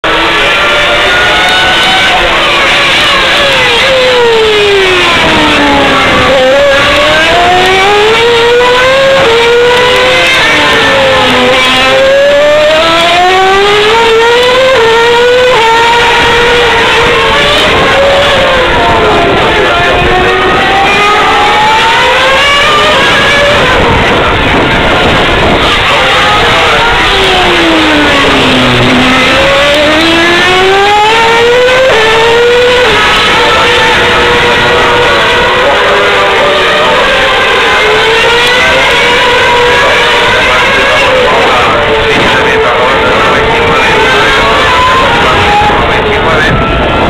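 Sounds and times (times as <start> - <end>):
racing car engines at high revs: 0.0 - 47.0.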